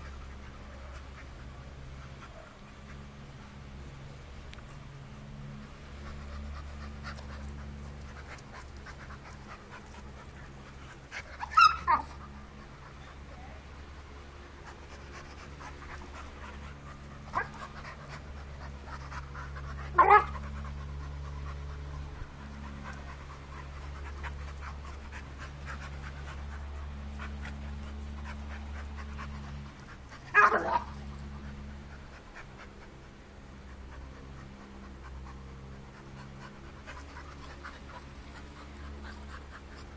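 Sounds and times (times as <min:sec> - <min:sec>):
dogs panting: 0:00.0 - 0:39.9
steady low hum: 0:00.0 - 0:39.9.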